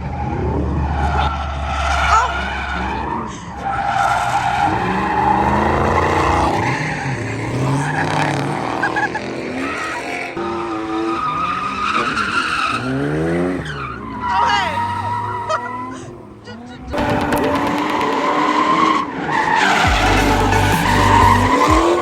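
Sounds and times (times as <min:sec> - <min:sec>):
car engine revving: 0:00.0 - 0:22.0
tire squeal: 0:00.0 - 0:22.0.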